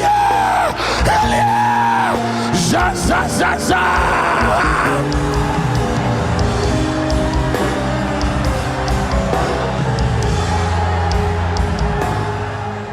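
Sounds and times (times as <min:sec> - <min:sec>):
slow instrumental worship music: 0:00.0 - 0:12.9.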